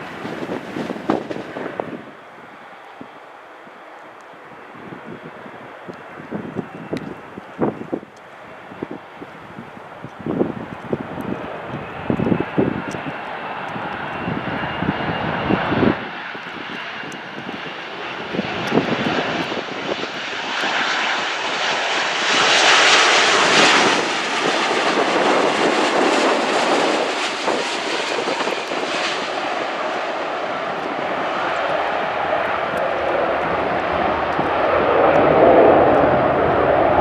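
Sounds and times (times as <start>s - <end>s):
wind buffeting microphone: 0.0s - 3.3s, 4.4s - 37.0s
high turbine whine: 0.0s - 37.0s
jet airliner engine roar: 0.0s - 37.0s.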